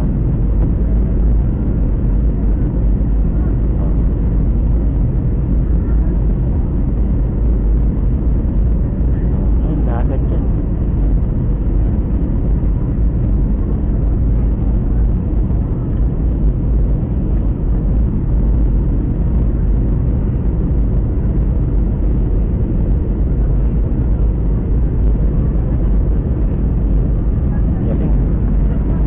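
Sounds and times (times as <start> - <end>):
airliner engines rumbling in cabin: 0.0 - 29.0.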